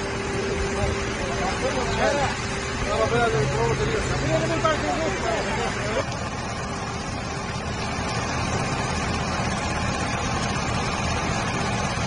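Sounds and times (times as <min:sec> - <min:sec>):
truck diesel engine running: 0:00.0 - 0:12.0
water jetting from spray bar: 0:00.0 - 0:12.0.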